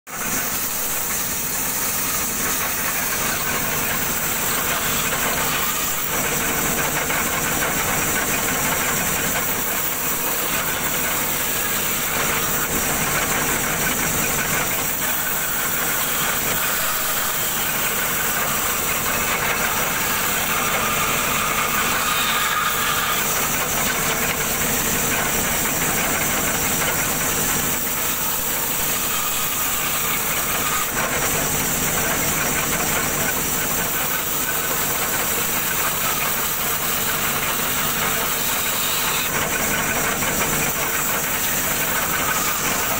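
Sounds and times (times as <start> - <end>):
band saw cutting wood: 0.1 - 42.9.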